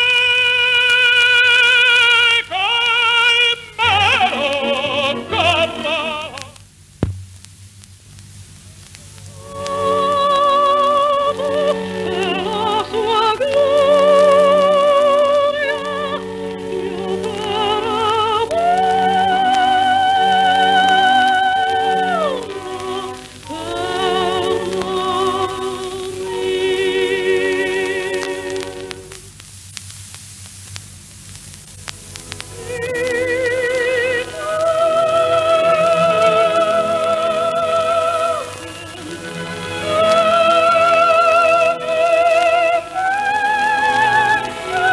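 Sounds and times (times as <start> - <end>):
operatic voice singing: 0.0 - 6.6, 9.4 - 29.1, 32.6 - 44.9
record surface crackle and clicks: 0.0 - 44.9.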